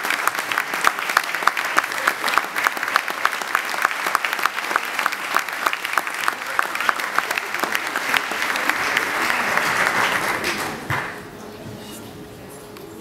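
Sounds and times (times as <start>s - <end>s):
close individual claps: 0.0s - 11.2s
audience applauding: 0.0s - 11.3s.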